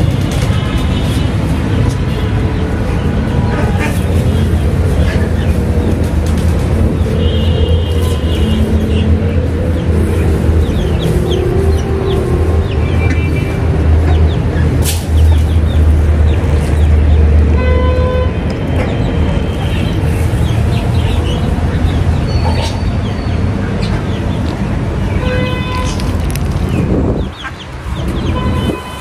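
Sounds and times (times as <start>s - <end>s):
chickens clucking: 0.2s - 17.5s, 18.5s - 28.9s.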